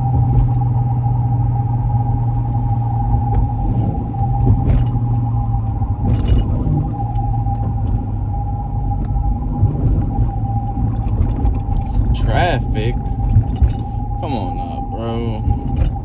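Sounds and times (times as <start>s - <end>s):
engine and road rumble: 0.0s - 16.0s
high-pitched whine: 0.0s - 16.0s.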